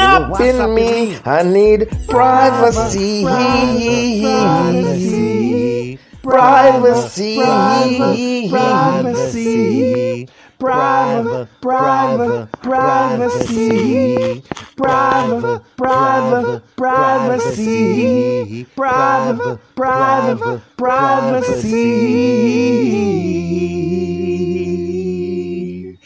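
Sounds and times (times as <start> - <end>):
a cappella vocals singing: 0.0 - 26.0.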